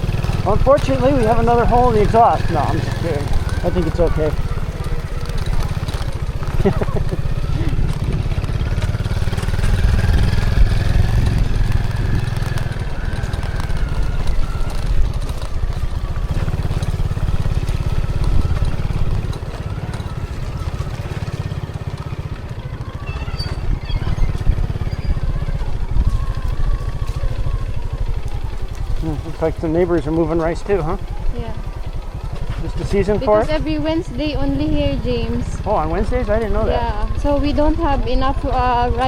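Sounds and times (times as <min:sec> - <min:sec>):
small motorcycle engine: 0:00.0 - 0:39.0.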